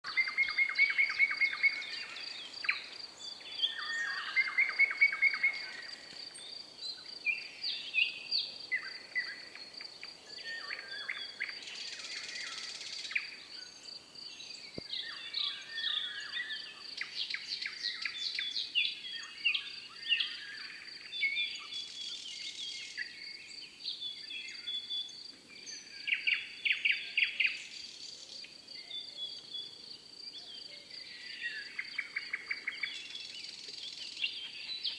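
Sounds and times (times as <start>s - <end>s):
birds singing and calling: 0.0s - 34.9s.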